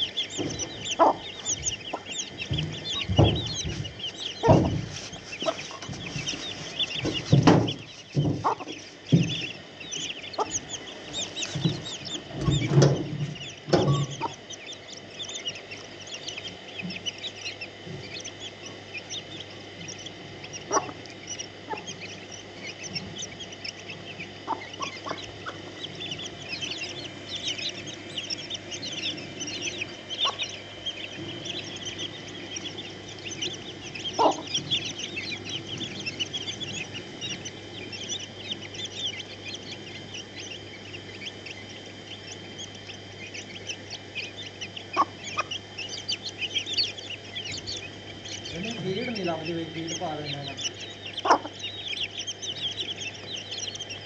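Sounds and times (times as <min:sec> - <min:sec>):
chicks cheeping: 0:00.0 - 0:54.0
hen clucking: 0:00.0 - 0:54.0.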